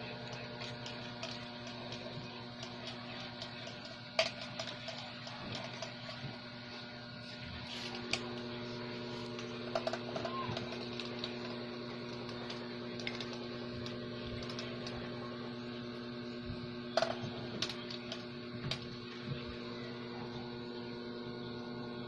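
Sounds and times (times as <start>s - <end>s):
mechanical hum with low tones: 0.0s - 22.0s.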